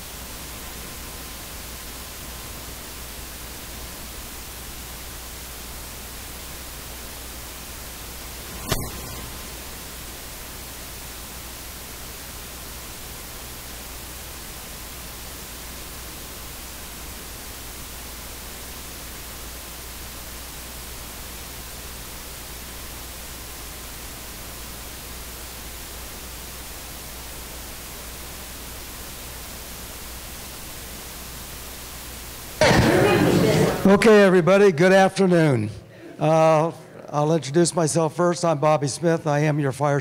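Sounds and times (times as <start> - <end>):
electronic static hiss: 0.0 - 40.0.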